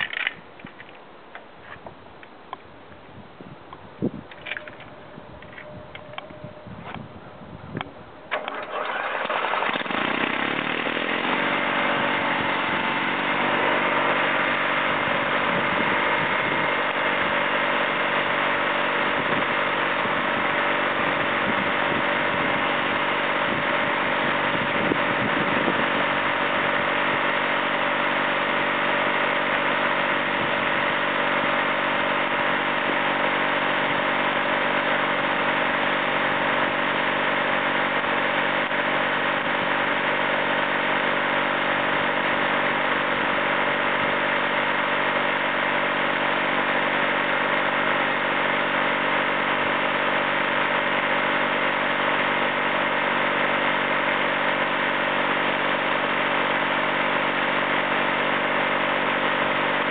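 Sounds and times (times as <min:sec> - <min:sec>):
gasoline engine running: 0:04.1 - 0:59.9.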